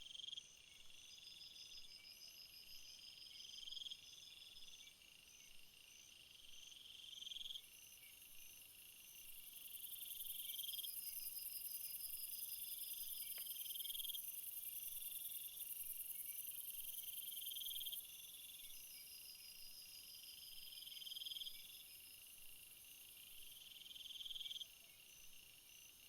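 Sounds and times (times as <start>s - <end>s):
crickets chirping: 0.1s - 26.0s
high steady insect trill: 0.1s - 26.0s.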